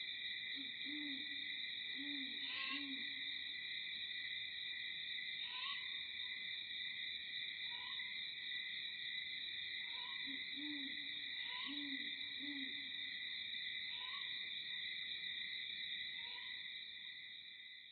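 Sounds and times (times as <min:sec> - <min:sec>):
high insect chorus: 0:00.0 - 0:17.9.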